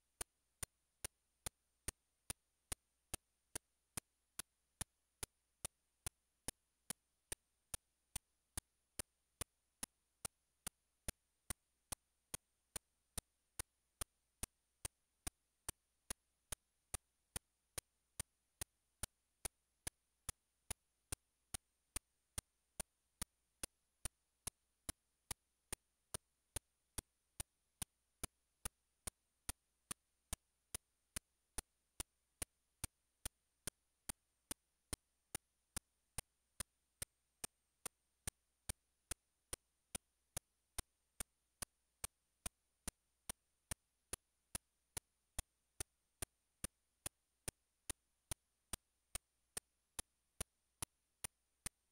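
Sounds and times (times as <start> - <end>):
sharp ticks: 0.2 - 51.9.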